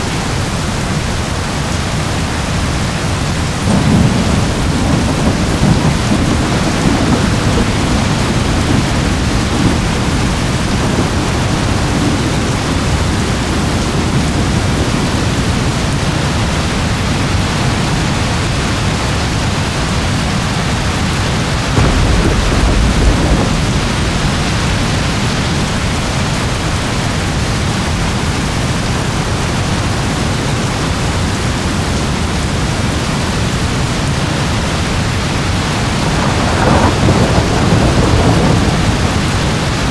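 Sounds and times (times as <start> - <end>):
heavy rain falling: 0.0 - 39.9
low rolling thunder: 0.1 - 39.9.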